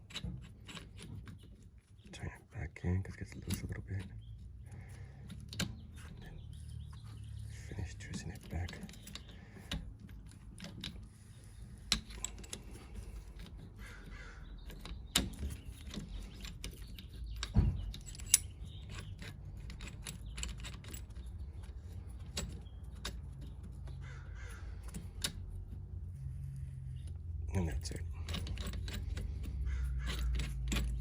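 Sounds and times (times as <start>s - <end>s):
hand tools clicking on metal: 0.0s - 2.0s, 3.3s - 31.0s.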